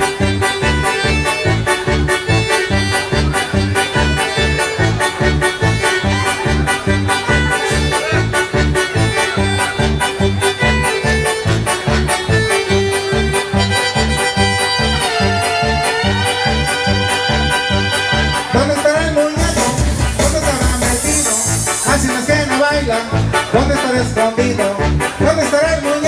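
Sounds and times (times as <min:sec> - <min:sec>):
electronic keyboard dance music: 0:00.0 - 0:26.0.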